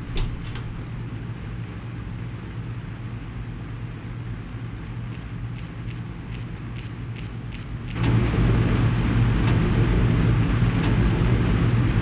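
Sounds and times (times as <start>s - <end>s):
industrial machinery humming: 0.0s - 12.0s.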